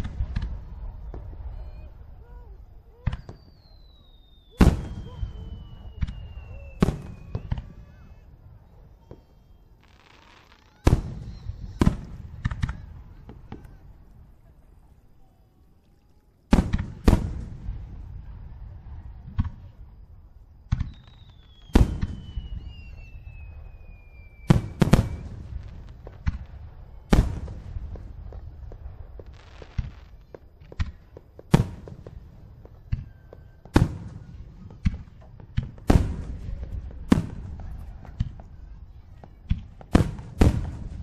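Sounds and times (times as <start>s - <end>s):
falling firework whistle: 0.0s - 13.8s, 16.6s - 41.0s
firework shells booming: 0.0s - 14.0s, 16.5s - 41.0s.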